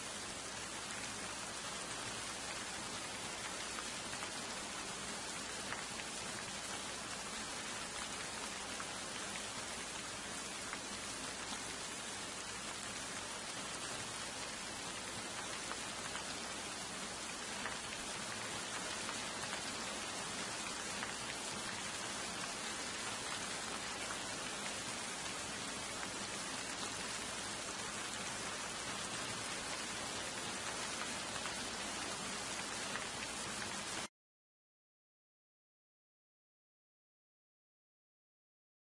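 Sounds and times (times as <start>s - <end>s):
rain falling on pond: 0.0s - 34.1s.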